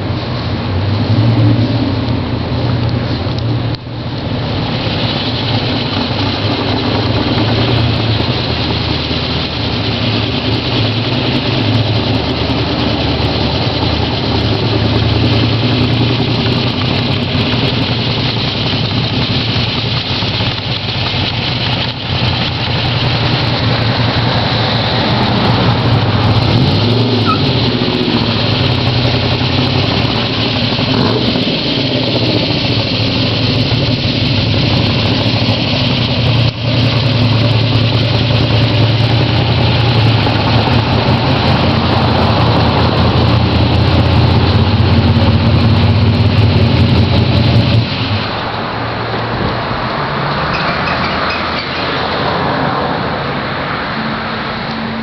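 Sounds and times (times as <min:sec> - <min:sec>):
car engine running: 0:00.0 - 0:53.7.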